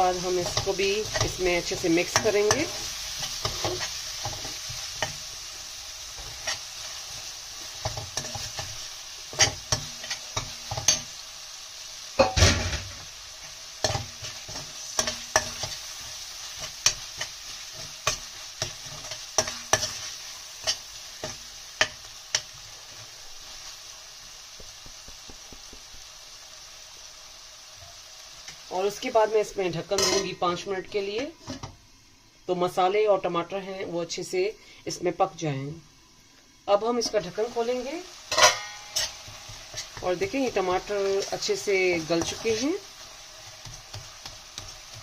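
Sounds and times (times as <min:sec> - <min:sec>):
food sizzling in oil: 0:00.0 - 0:45.0.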